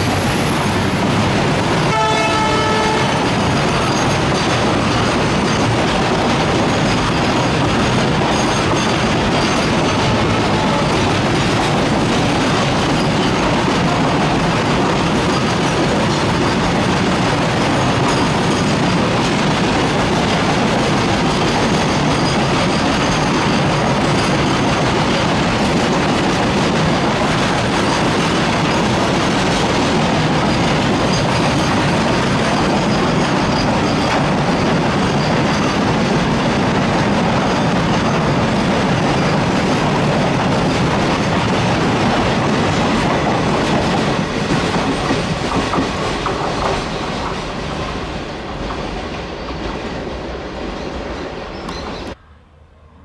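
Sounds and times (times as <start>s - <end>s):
freight train clickety-clack: 0.0s - 52.2s.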